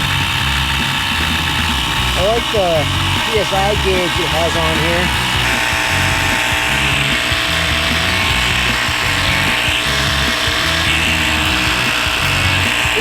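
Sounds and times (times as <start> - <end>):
tire inflator compressor running: 0.0 - 13.0.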